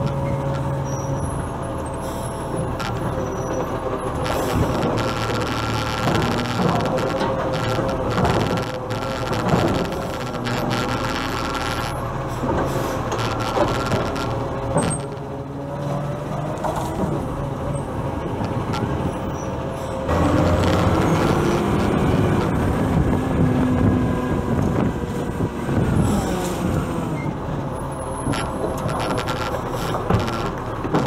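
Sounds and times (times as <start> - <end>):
garbage truck diesel engine: 0.0 - 31.0.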